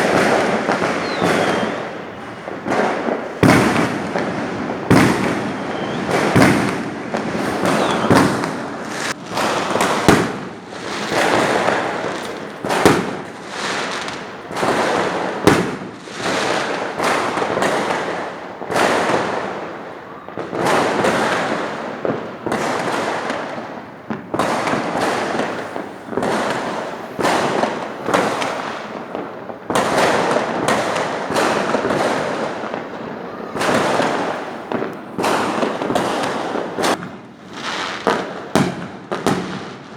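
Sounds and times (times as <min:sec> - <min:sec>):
fireworks crackling: 0:00.0 - 0:39.9
fireworks sharp bangs: 0:00.0 - 0:39.9.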